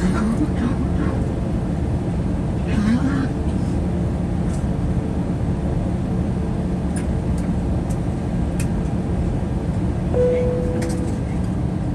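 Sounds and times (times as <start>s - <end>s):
aircraft cabin rumble: 0.0s - 11.9s
steady hum: 0.6s - 11.9s.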